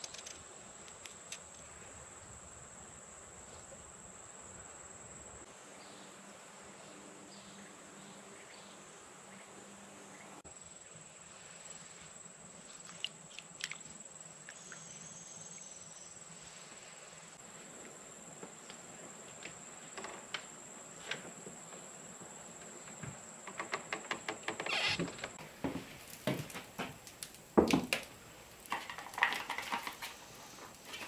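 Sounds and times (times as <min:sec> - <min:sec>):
faint outdoor background noise: 0:00.0 - 0:31.0
insects droning: 0:00.0 - 0:31.0.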